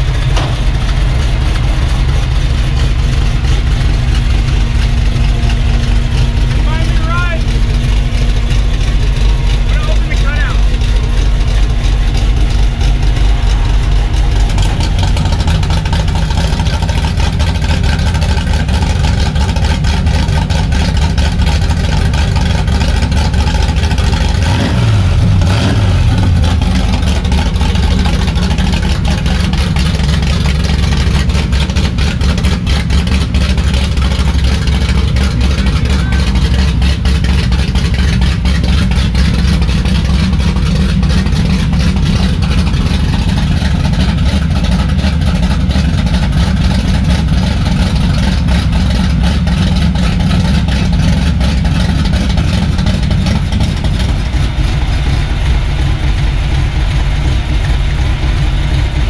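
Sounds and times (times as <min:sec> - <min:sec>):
car engine running: 0:00.0 - 0:59.0
engine revving: 0:00.0 - 0:59.0.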